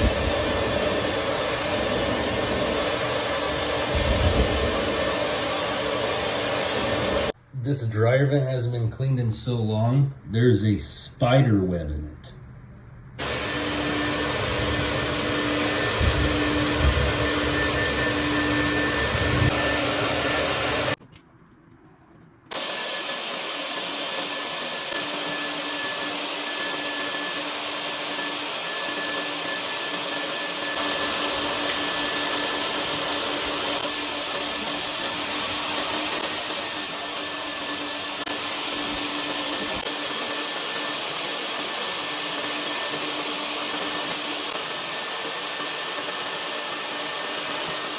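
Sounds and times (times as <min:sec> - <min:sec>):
vacuum noise with faint whine: 0:00.0 - 0:07.4, 0:09.6 - 0:47.9
vacuum running with humming tone: 0:00.0 - 0:07.4, 0:13.2 - 0:21.0, 0:22.5 - 0:47.9.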